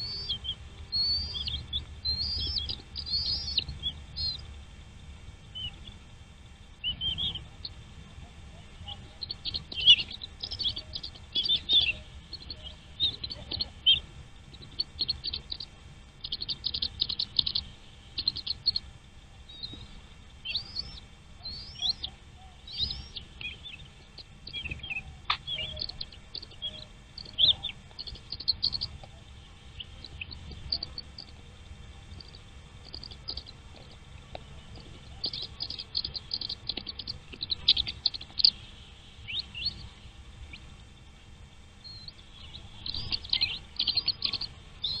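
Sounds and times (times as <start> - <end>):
faint low rumble: 0.0 - 45.0
small birds chirping: 0.0 - 45.0.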